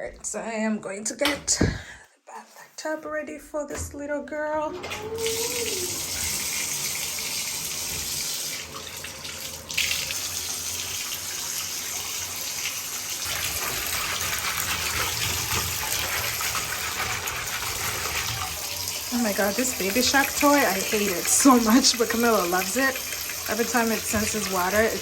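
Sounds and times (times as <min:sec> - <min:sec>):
bathtub tap running: 0:04.8 - 0:25.0.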